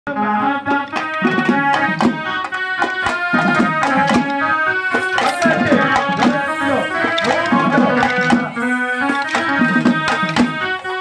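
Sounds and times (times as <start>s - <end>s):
drums beating steady rhythm: 0.4s - 11.0s
melody instrument holding notes: 0.4s - 11.0s.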